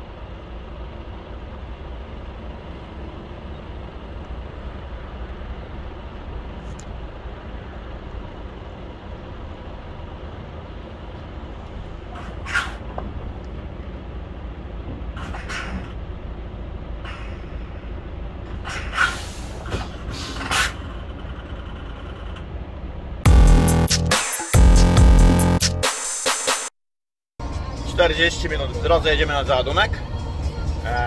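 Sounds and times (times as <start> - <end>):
truck engine rumbling: 0.0 - 25.9.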